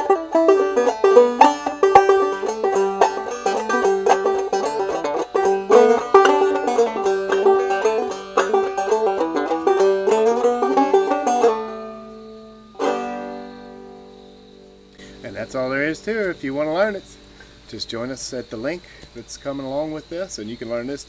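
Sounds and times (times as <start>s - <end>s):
banjo plucked notes: 0.0s - 17.4s
banjo strum: 0.0s - 17.4s.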